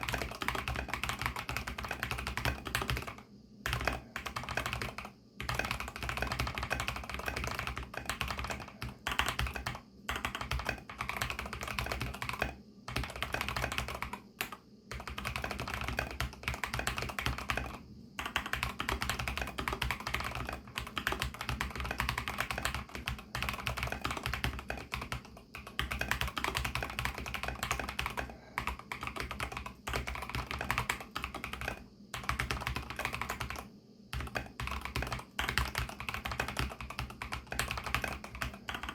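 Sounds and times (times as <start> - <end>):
typing on a mechanical keyboard: 0.0 - 38.9.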